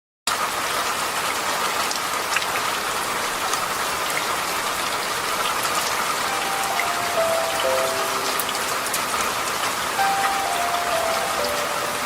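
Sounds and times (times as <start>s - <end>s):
steady rain falling: 0.3s - 12.0s.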